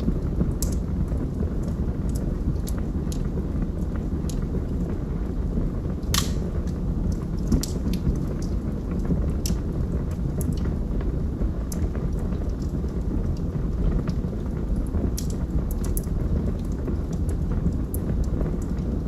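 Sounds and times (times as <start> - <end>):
fire flames rumbling: 0.0 - 19.0
wood fire crackling and popping: 0.0 - 19.0.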